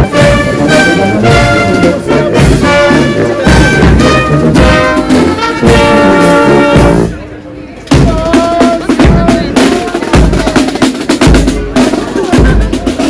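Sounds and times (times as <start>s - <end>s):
brass marching band playing: 0.0s - 13.0s.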